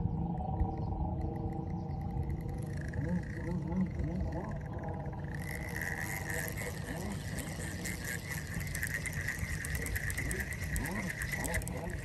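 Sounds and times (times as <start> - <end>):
wind rumble on microphone: 0.0 - 12.0
fishing reel clicking: 1.5 - 12.0.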